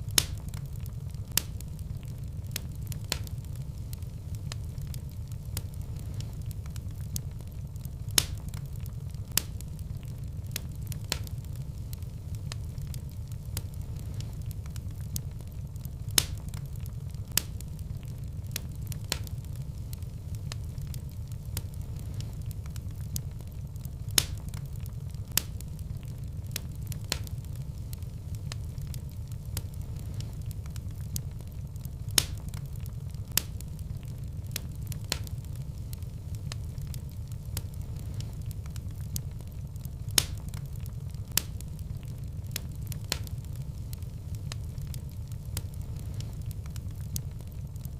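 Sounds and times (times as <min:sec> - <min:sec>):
burning logs crackling and popping: 0:00.0 - 0:47.9
fire rumbling: 0:00.0 - 0:47.9.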